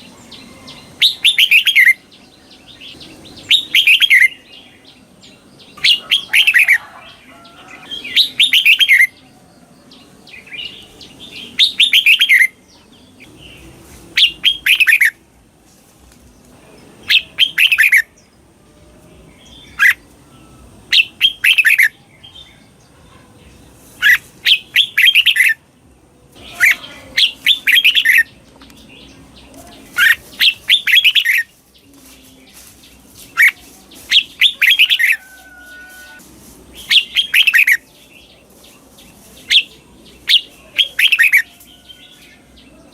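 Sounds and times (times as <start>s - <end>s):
bird warbling song: 0.0s - 15.2s, 16.8s - 18.4s, 19.3s - 25.6s, 26.4s - 42.9s.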